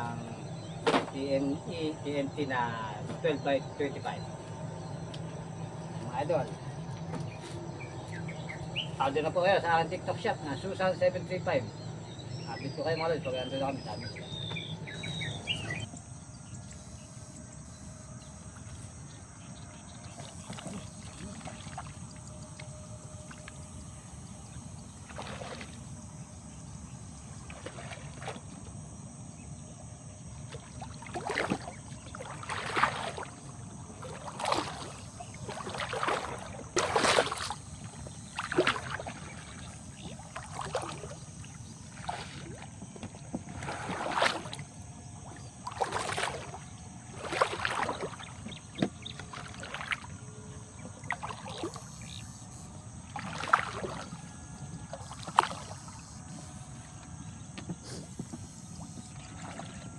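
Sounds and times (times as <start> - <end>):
water sloshing and splashing: 0.0 - 59.9.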